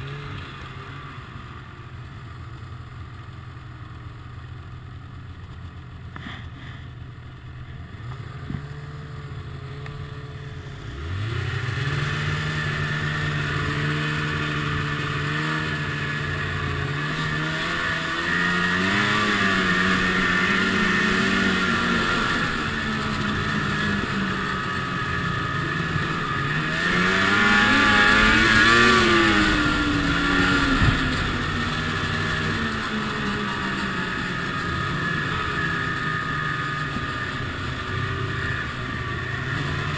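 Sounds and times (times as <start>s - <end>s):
snowmobile engine revving: 0.0s - 3.2s, 6.1s - 39.9s.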